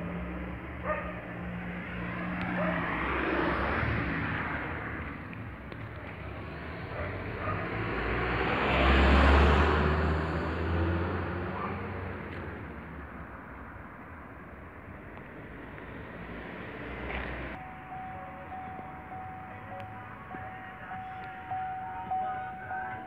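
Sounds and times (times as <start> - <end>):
car engine hum: 0.0 - 23.0
car passing: 0.0 - 23.0.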